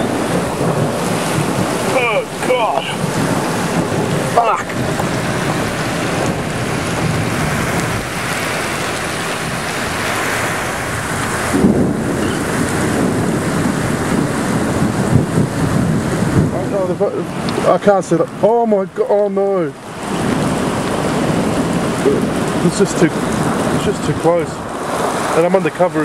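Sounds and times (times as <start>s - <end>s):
torrential rain pouring: 0.0s - 26.0s
wind gusting across microphone: 0.0s - 26.0s.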